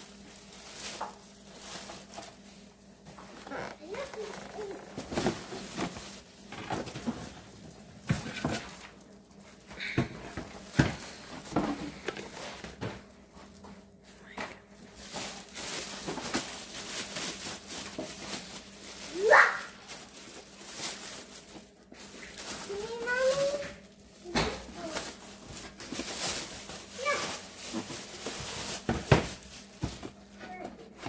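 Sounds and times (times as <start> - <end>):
plastic crinkling: 0.0 - 12.6, 13.3 - 31.0.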